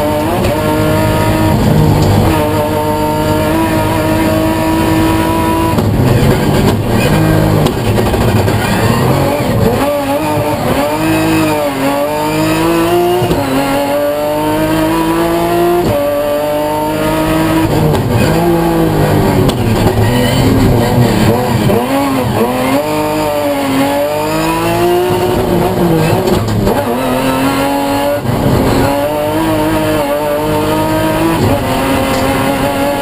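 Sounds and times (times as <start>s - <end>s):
race car engine at high revs: 0.0s - 33.0s.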